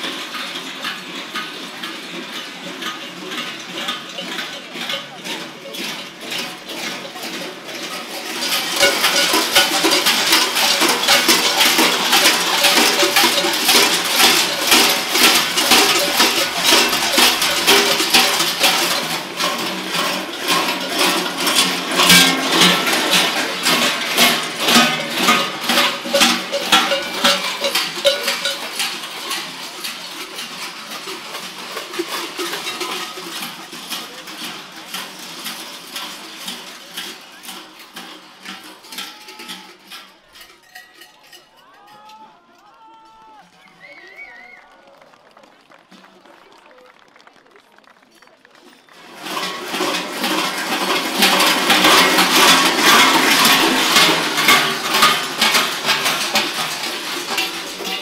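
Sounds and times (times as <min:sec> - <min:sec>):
large bells clanging: 0:00.0 - 0:42.3, 0:48.8 - 0:58.0.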